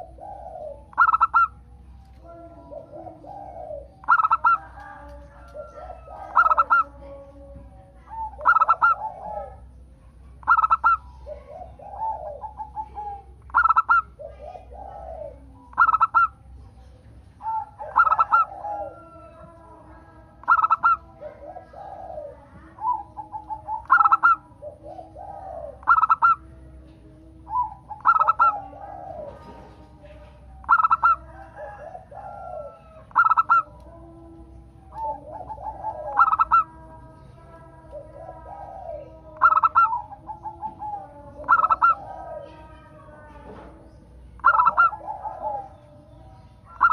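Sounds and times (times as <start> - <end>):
softer low dove coos: 0.0 - 46.9.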